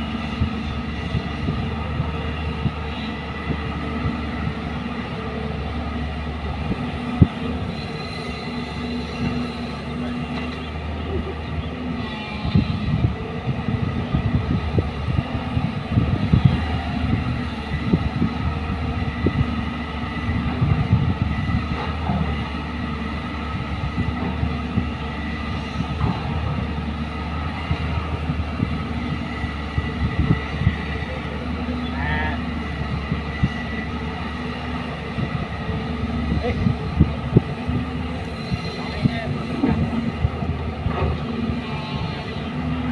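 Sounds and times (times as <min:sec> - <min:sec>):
excavator diesel engine under load: 0:00.0 - 0:42.9.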